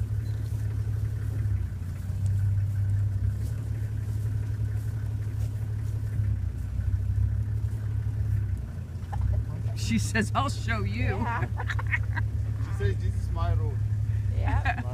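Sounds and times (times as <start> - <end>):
vehicle engine idling: 0.0 - 14.9.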